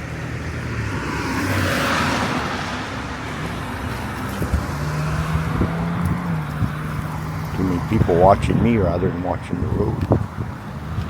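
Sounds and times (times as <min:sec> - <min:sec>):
car passing: 0:00.0 - 0:11.0
road traffic noise: 0:00.0 - 0:11.0.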